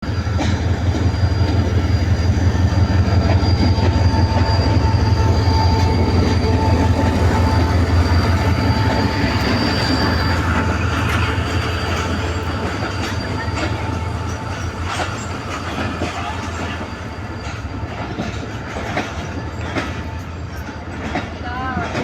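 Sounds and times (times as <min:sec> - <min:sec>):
train carriages rumbling: 0:00.0 - 0:22.0
wheels squealing on rails: 0:00.0 - 0:22.0.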